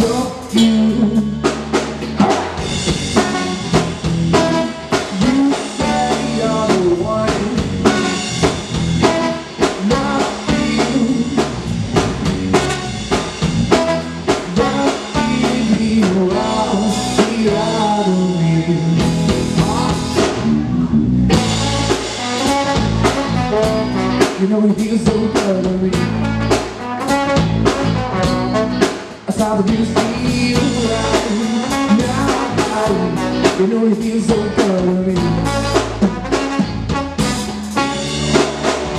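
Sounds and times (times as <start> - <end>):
bass guitar: 0.0 - 38.9
drum kit: 0.0 - 38.9
electric guitar: 0.0 - 38.9
trombone: 2.2 - 20.5, 21.3 - 29.1, 30.0 - 33.8, 34.6 - 38.9.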